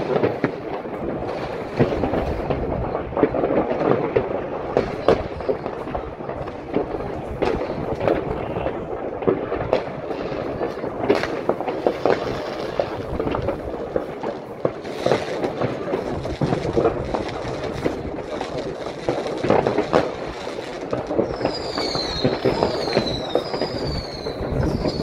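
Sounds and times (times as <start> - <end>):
firecrackers crackling: 0.0 - 25.0
fireworks banging: 0.0 - 25.0
whistling fireworks: 0.0 - 25.0.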